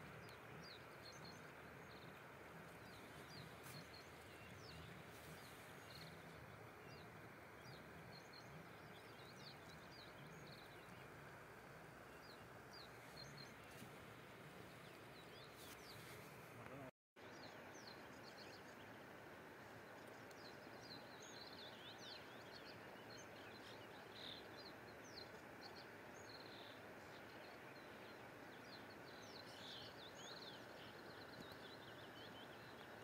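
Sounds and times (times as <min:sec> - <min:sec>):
small birds chirping: 0:00.0 - 0:33.0
steady low hiss: 0:00.0 - 0:33.0.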